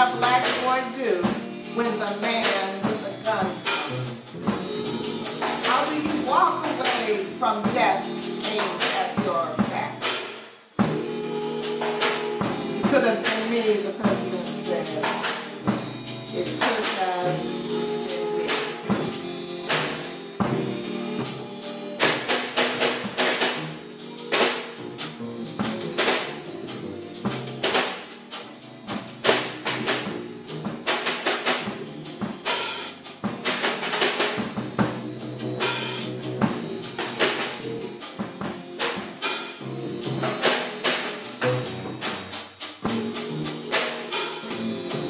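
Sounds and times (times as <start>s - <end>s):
double bass: 0.0s - 10.2s, 10.8s - 45.0s
snare drum and cymbal: 0.0s - 45.0s.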